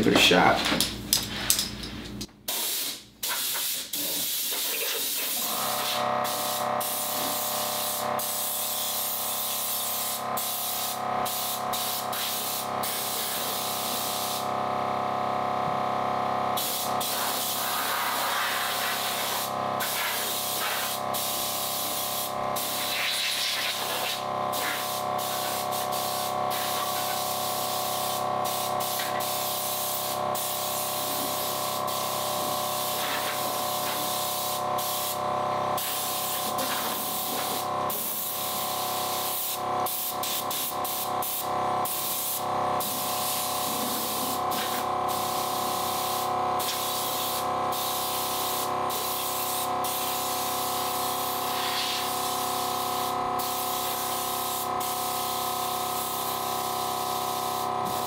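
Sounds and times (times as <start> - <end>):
air compressor motor drone: 5.1 - 58.0.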